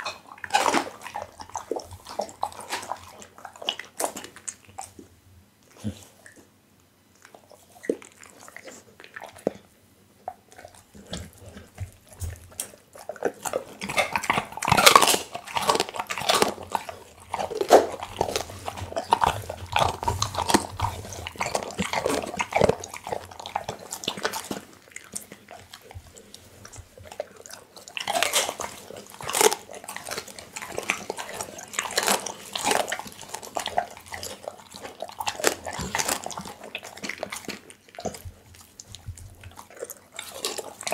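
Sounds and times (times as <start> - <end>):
dog chewing meat and bone: 0.0 - 40.9.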